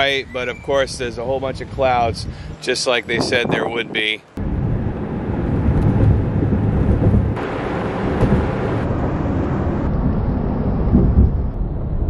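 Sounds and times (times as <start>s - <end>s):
car road and wind noise: 0.0s - 12.0s.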